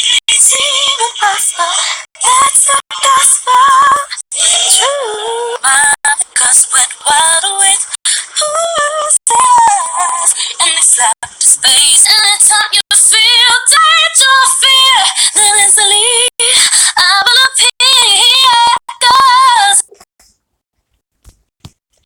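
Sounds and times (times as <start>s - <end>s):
woman singing with vibrato: 0.0s - 20.0s.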